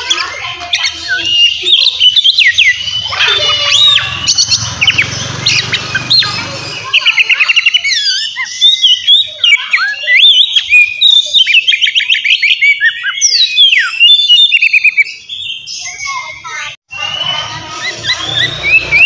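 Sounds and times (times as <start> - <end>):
songbird singing whistles and trills: 0.0 - 19.0.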